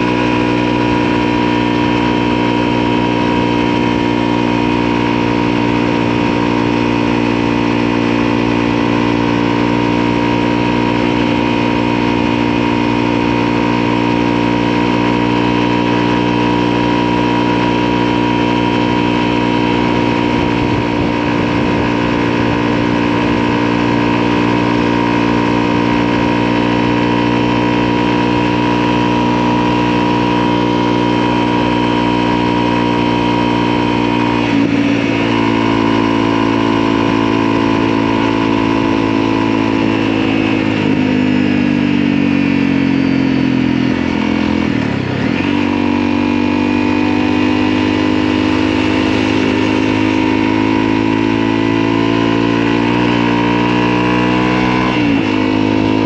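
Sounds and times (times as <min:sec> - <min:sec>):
motorcycle engine humming: 0:00.0 - 0:56.0.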